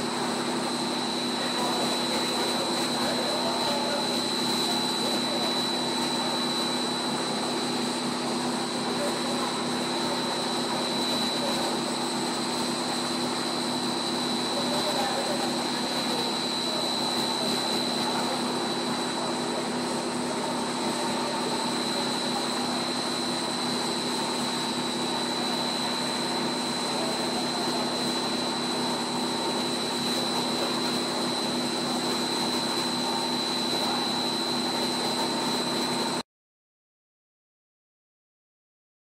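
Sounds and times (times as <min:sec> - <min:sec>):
constant high whine: 0:00.0 - 0:36.2
extrusion machine hum and hiss: 0:00.0 - 0:36.2.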